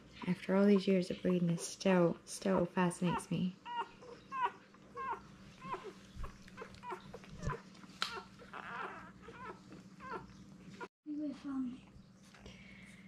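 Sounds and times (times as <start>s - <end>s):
puppies squeaking and whimpering: 0.0s - 10.9s.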